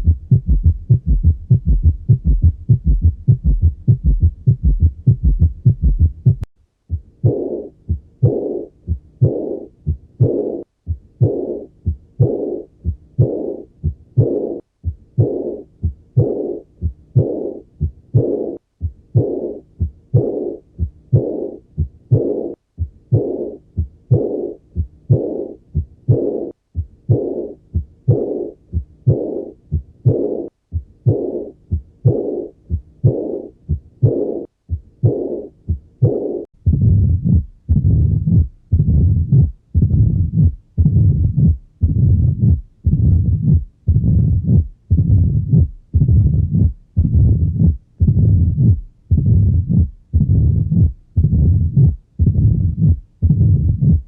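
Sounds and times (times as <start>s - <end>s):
heartbeat with rushing murmur: 0.0s - 54.0s.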